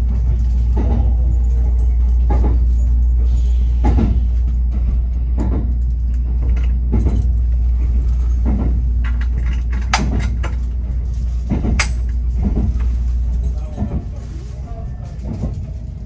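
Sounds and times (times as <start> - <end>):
train wheels knocking: 0.0 - 14.2
train rumbling inside car: 0.0 - 16.0.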